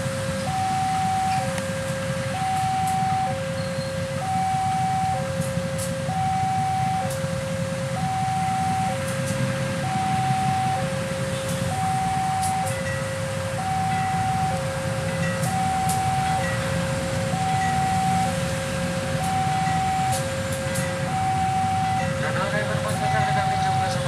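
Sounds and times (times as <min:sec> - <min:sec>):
locomotive engine rumbling: 0:00.0 - 0:24.0
two-tone crossing alarm chime: 0:00.0 - 0:24.0.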